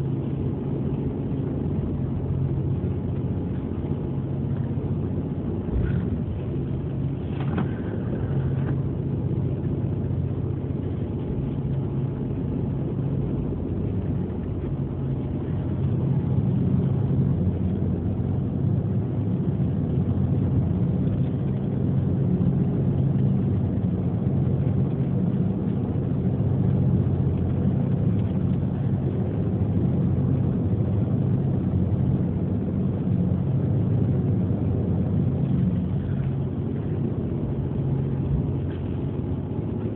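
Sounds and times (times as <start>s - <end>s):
ferry engines droning: 0.0s - 39.9s.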